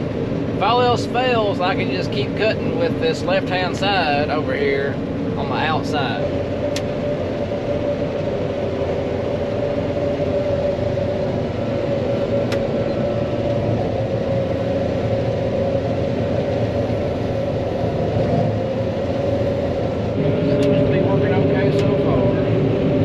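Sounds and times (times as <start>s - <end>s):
combine harvester droning: 0.0s - 23.0s
constant whine: 0.0s - 23.0s.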